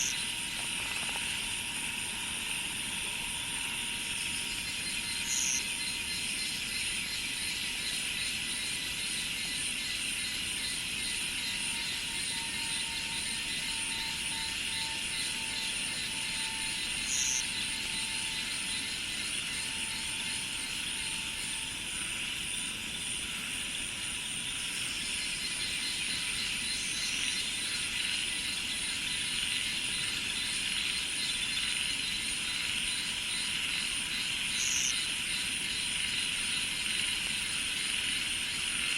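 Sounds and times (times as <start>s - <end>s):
cicadas and insects chorus: 0.0s - 38.9s
high insect chirps: 0.0s - 38.9s.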